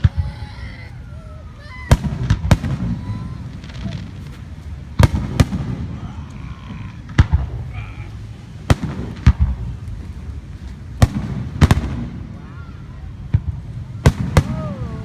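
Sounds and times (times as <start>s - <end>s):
fireworks sharp bangs: 1.8s - 15.0s
low rumble of echoing booms: 1.9s - 15.0s.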